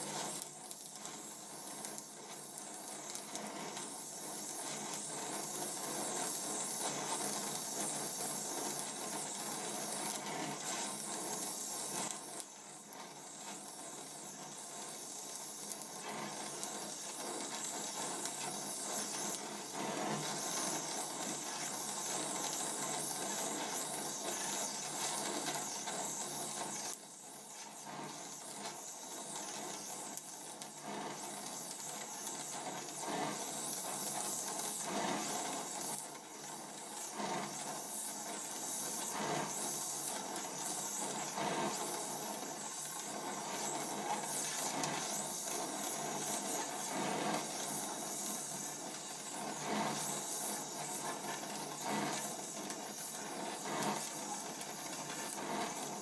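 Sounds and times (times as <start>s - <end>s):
gas torch flame hissing: 0.0s - 56.0s.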